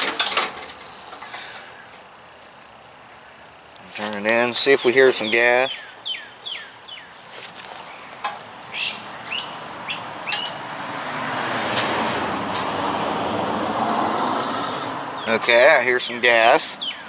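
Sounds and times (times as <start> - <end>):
birds chirping: 0.2 - 11.5, 14.2 - 17.0.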